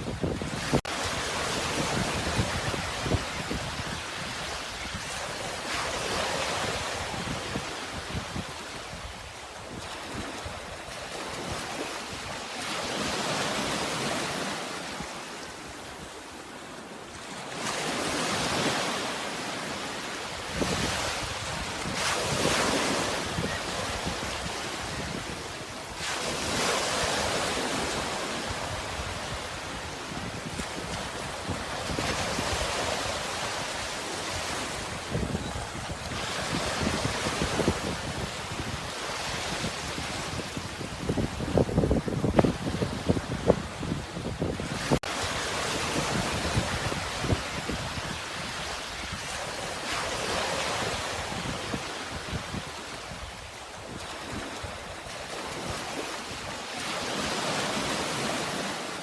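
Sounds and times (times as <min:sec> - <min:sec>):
wind rumbling on microphone: 0:00.0 - 0:12.4, 0:20.4 - 0:56.5.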